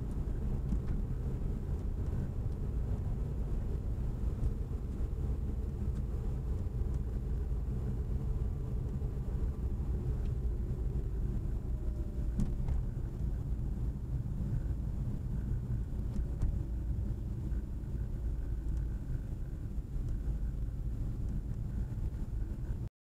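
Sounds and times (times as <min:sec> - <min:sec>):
car engine and road rumble: 0:00.0 - 0:22.9.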